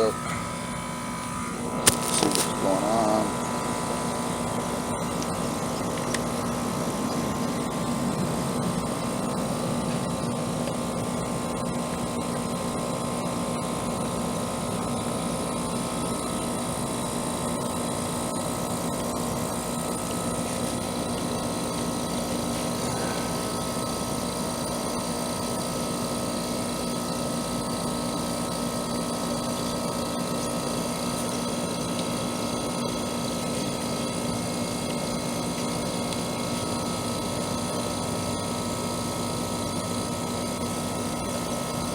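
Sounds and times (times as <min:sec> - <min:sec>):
air conditioner unit humming: 0:00.0 - 0:41.9.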